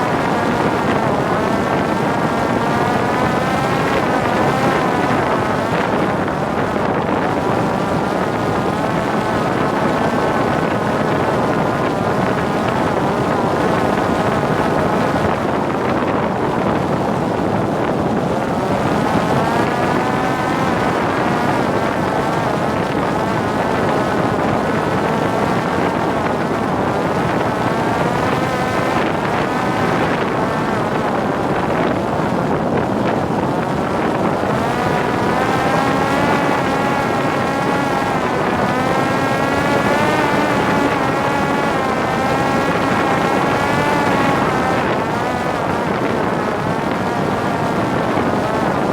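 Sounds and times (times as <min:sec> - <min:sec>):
drone propeller whining: 0:00.0 - 0:48.9
wind rushing on microphone: 0:00.0 - 0:48.9.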